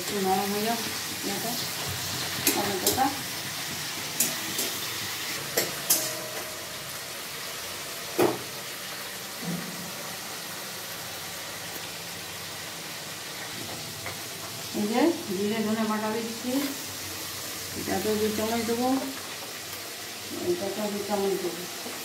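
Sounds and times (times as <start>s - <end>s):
tomatoes sizzling in oil: 0.0s - 22.0s.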